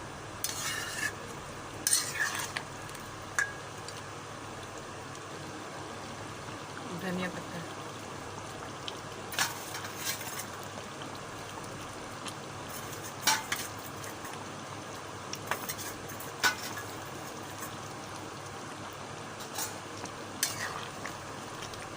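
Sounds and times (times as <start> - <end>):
curry sizzling in a pan: 0.0 - 21.9.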